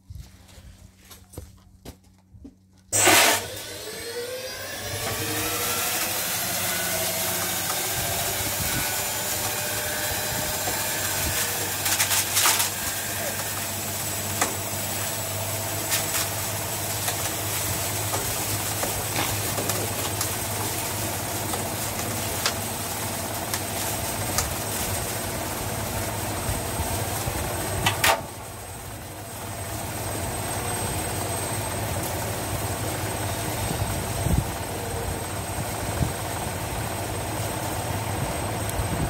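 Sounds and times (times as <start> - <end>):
washing machine humming: 3.0 - 39.0.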